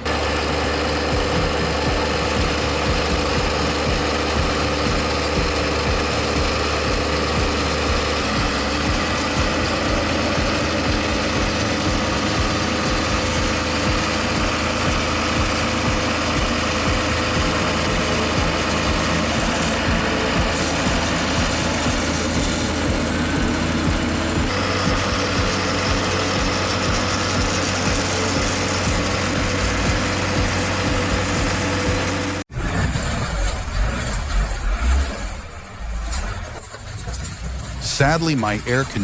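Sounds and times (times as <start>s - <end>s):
large engine running: 0.0s - 39.0s.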